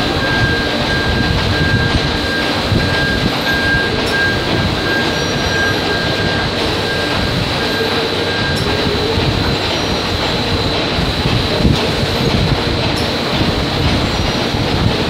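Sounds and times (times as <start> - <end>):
factory machinery din: 0.0 - 15.0
high machine whine: 0.0 - 15.0.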